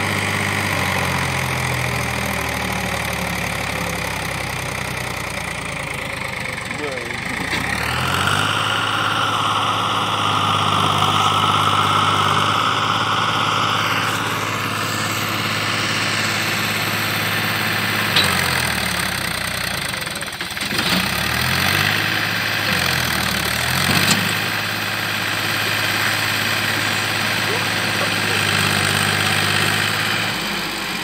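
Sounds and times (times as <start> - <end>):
tractor diesel engine labouring: 0.0 - 31.0.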